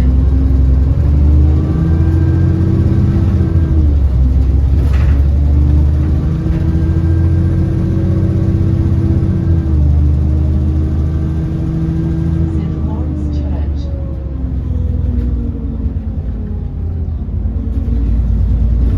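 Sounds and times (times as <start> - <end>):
bus engine droning with whine: 0.0 - 18.9.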